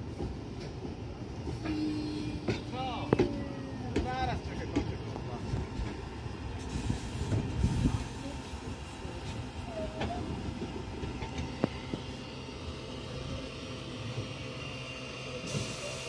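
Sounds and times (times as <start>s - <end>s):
steam locomotive rumble: 0.0s - 16.0s.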